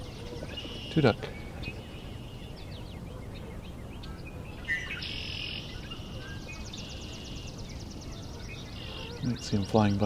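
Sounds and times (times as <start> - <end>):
bird trilling: 0.0 - 9.4.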